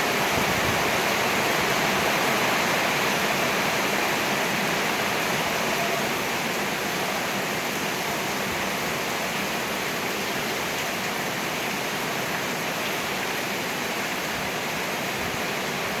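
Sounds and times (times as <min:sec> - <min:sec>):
rain pouring: 0:00.0 - 0:16.0.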